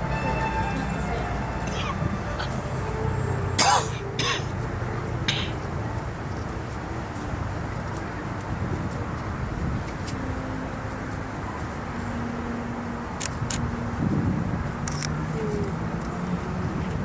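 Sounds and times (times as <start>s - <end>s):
low traffic-like rumble: 0.0s - 17.0s.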